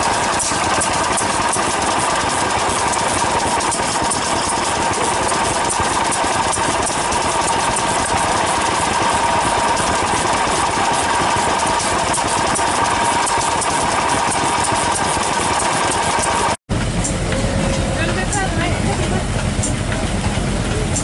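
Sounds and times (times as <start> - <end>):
high engine hum: 0.0 - 21.0
stationary engines clattering: 0.0 - 21.0.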